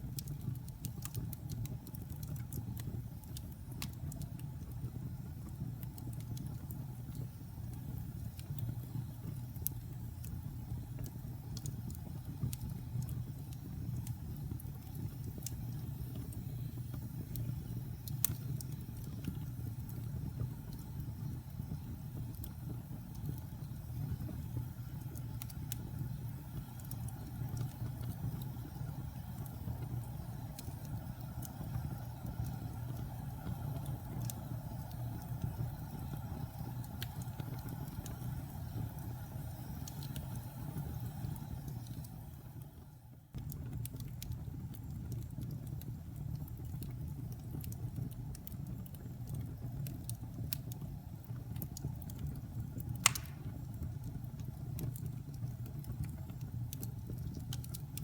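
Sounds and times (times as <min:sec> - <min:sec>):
fireplace fire roaring and crackling: 0:00.0 - 0:58.0.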